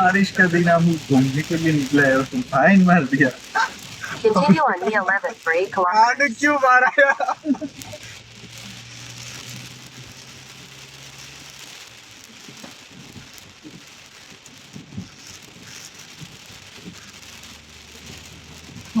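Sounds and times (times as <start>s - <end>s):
heavy rain on a car: 0.0s - 19.0s.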